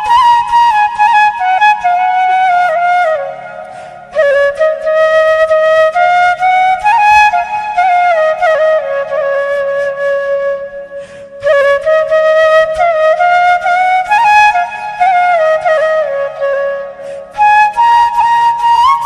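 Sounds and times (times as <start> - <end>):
solo flute melody: 0.0 - 19.0.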